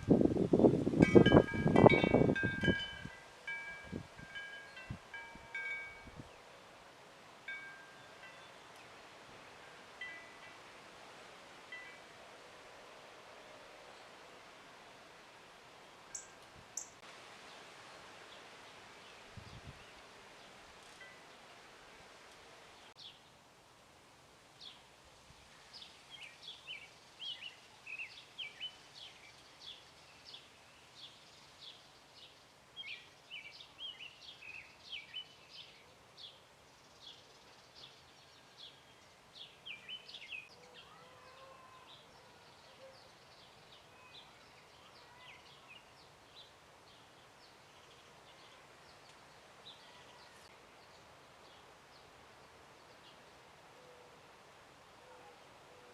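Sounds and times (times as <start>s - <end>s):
faint outdoor background: 0.0s - 55.9s.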